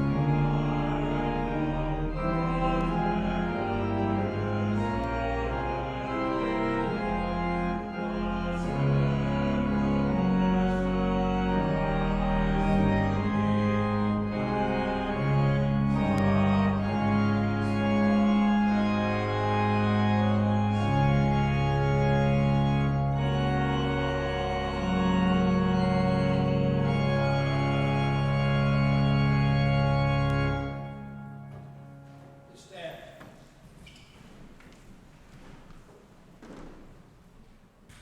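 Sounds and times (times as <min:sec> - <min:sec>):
church organ playing sustained chords: 0:00.0 - 0:33.2.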